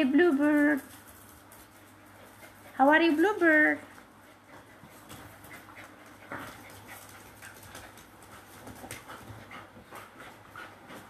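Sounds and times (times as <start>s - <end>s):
dogs scuffling: 0.0s - 11.0s
dogs panting: 0.4s - 11.0s.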